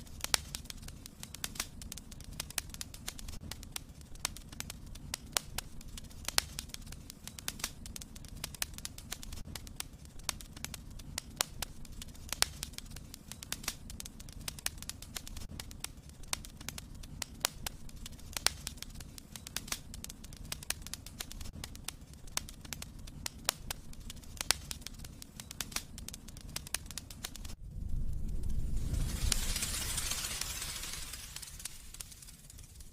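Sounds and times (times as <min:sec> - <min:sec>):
steady hiss: 0:00.0 - 0:32.9
wood fire crackling: 0:00.0 - 0:32.9.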